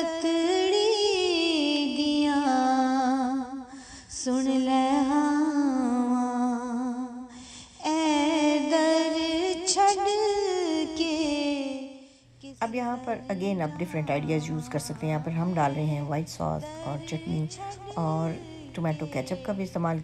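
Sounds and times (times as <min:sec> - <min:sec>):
woman singing with vibrato: 0:00.0 - 0:20.0.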